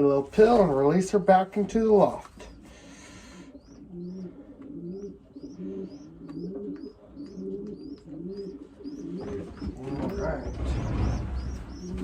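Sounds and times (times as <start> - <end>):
pigeons cooing: 1.6 - 12.0.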